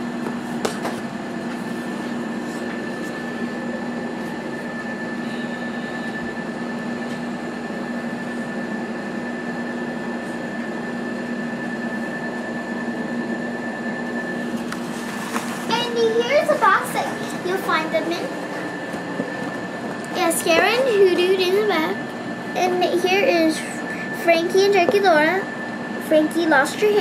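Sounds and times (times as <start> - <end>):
background hum and hiss: 0.0 - 27.0
constant high whine: 0.0 - 27.0.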